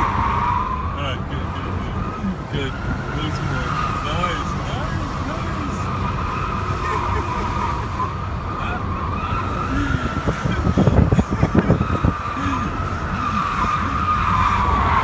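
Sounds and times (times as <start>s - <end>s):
car tyres squealing: 0.0s - 15.0s
engine and road rumble: 0.0s - 15.0s.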